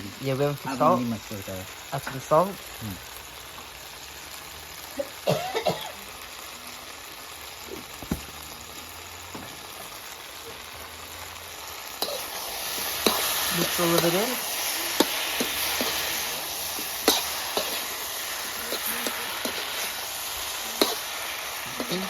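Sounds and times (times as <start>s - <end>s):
okra sizzling in a pan: 0.0s - 22.0s.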